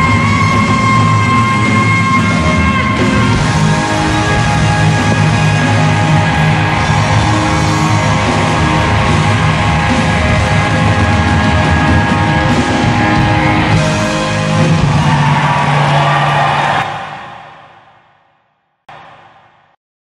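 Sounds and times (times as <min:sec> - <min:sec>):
loud live band music: 0:00.0 - 0:17.5.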